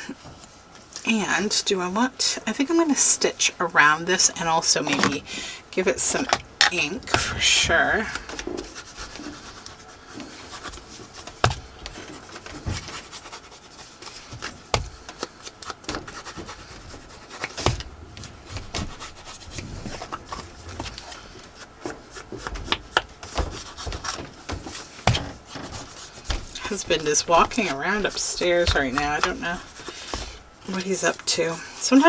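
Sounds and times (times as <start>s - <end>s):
paper rustling: 4.4s - 31.9s.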